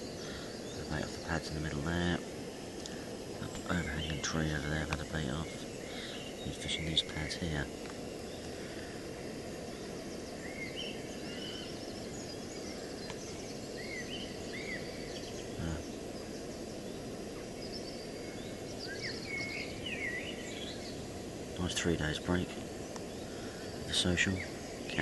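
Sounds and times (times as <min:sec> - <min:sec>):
low outdoor rumble: 0:00.0 - 0:25.0
small birds chirping: 0:00.0 - 0:25.0.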